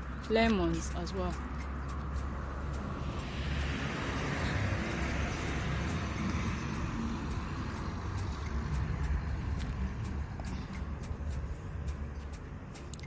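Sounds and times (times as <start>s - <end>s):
constant low rumble: 0.0s - 13.0s
road vehicle passing: 0.0s - 13.0s.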